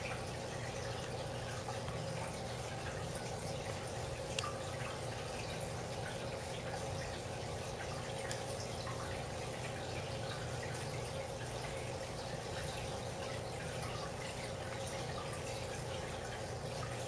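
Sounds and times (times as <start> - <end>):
aquarium water trickling: 0.0 - 17.0
faint constant tone: 0.0 - 17.0.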